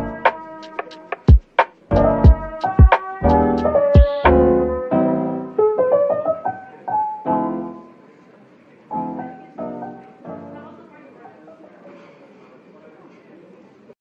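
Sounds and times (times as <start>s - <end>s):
soft piano music: 0.0s - 11.3s.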